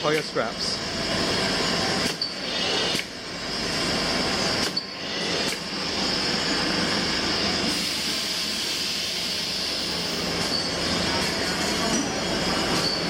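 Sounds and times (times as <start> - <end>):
workshop machinery whining: 0.0 - 13.0.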